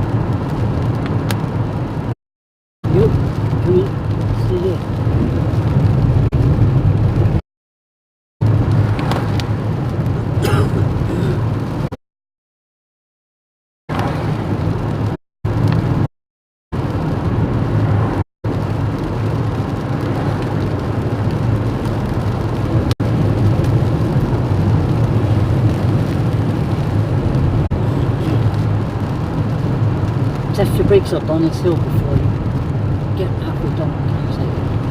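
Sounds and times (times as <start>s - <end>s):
car engine and road noise: 0.0s - 2.2s, 2.8s - 7.4s, 8.4s - 12.0s, 13.9s - 16.1s, 16.7s - 34.9s.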